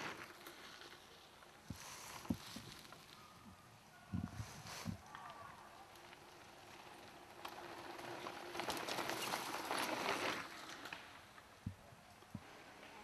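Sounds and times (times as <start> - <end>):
bike tyres crunching over dirt: 0.0 - 13.0.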